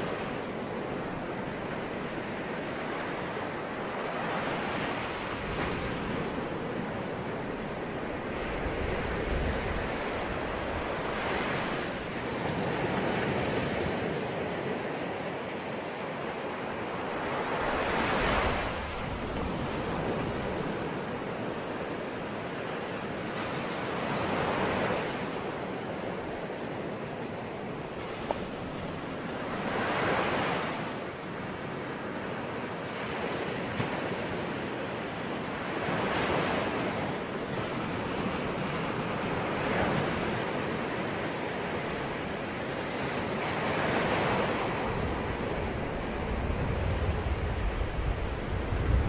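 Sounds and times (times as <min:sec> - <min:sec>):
ocean waves breaking: 0:00.0 - 0:49.0
wind: 0:00.0 - 0:49.0.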